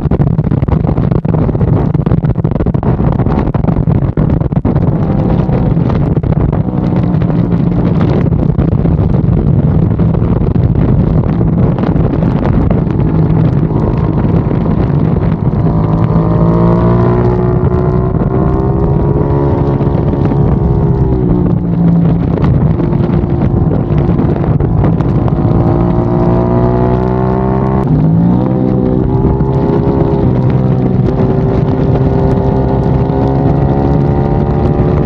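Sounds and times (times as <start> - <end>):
wind rushing: 0.0 - 35.0
motorcycle engine revving: 4.4 - 35.0.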